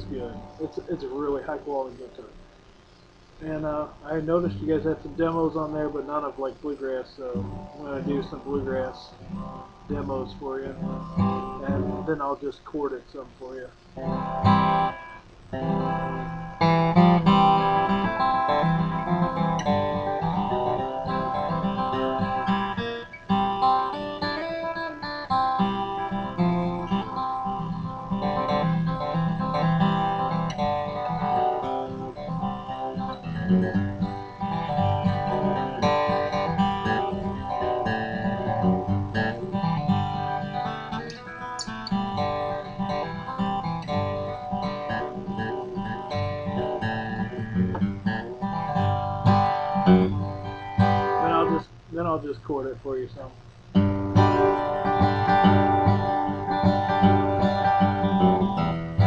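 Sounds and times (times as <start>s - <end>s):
acoustic guitar bluegrass picking: 0.0s - 2.3s, 3.3s - 52.9s, 53.7s - 59.0s.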